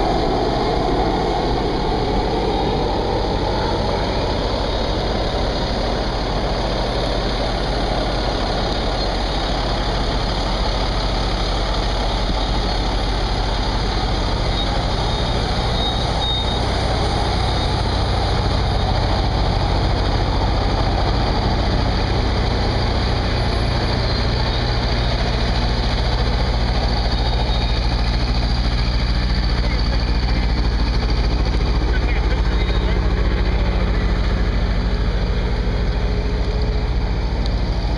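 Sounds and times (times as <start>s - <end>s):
engine droning: 0.0s - 37.9s.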